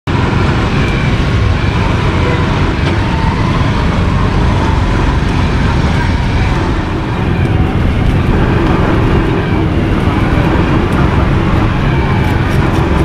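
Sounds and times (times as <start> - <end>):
low rumble of road traffic: 0.1 - 13.0
faint voices: 2.0 - 13.0.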